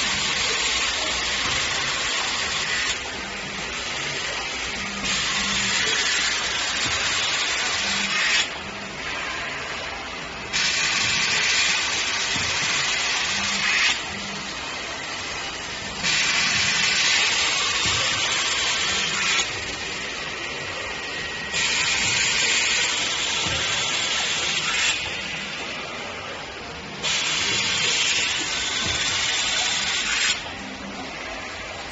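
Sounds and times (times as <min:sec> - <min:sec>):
printing machine hissing: 0:00.0 - 0:31.9.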